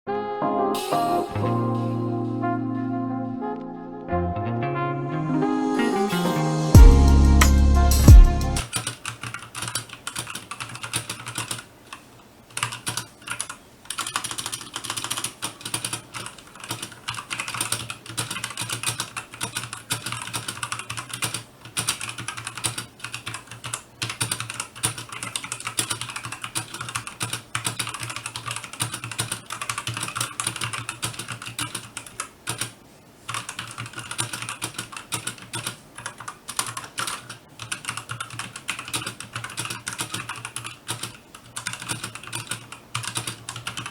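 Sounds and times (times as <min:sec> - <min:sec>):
mechanical keyboard typing: 0:08.6 - 0:43.9.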